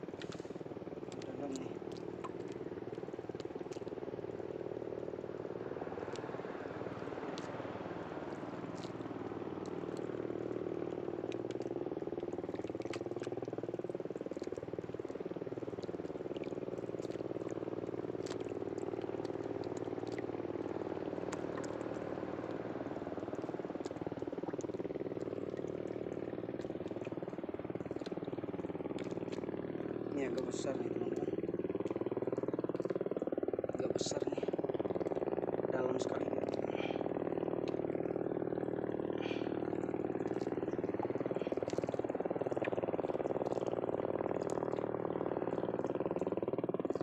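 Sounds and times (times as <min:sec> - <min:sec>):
engine humming: 0:00.0 - 0:33.1, 0:33.8 - 0:47.0.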